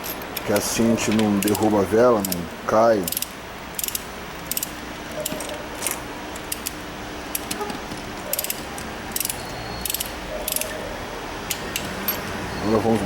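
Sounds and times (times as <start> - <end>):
ratchet wrench clicking: 0.0 - 2.4, 3.0 - 7.6, 8.2 - 10.8, 11.4 - 13.0.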